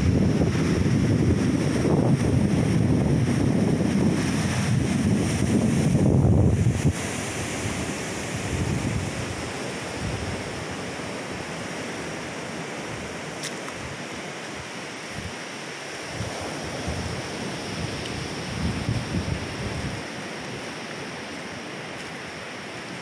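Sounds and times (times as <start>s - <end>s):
wind buffeting microphone: 0.0s - 22.3s.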